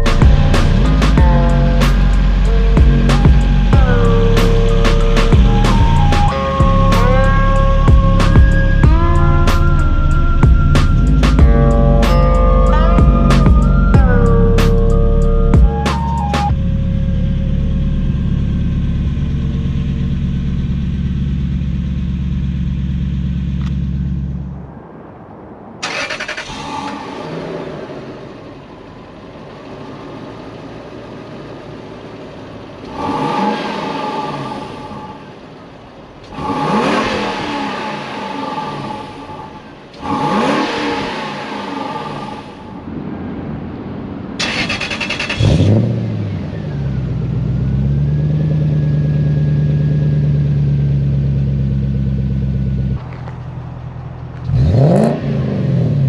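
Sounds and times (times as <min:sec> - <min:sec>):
car engine revving: 0:00.0 - 0:56.0
low engine drone: 0:00.0 - 0:56.0.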